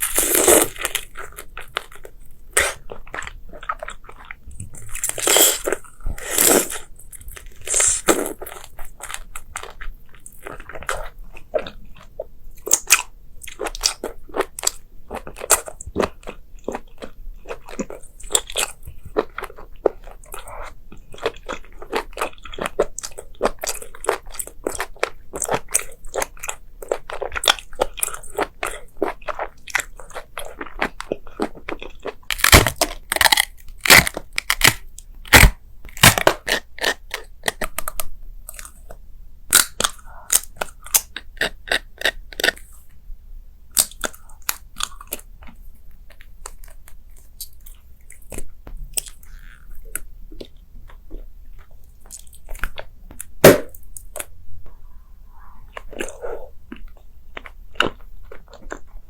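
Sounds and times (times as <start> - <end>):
crunchy food being chewed: 0.0 - 43.0, 43.7 - 54.8, 55.4 - 59.0.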